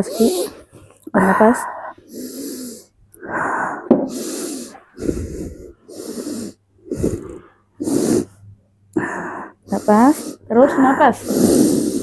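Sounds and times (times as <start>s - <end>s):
woman breathing deeply: 1.2s - 12.0s.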